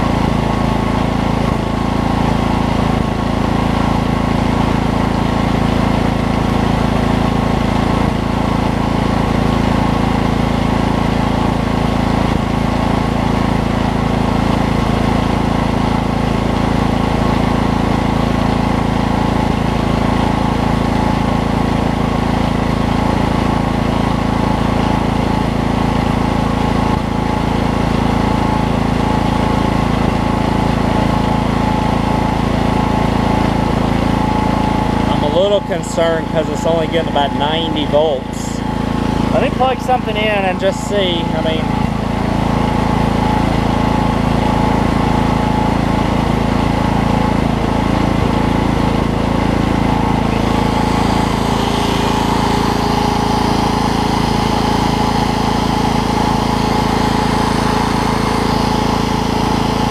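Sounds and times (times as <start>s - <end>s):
portable generator running: 0.0s - 59.9s.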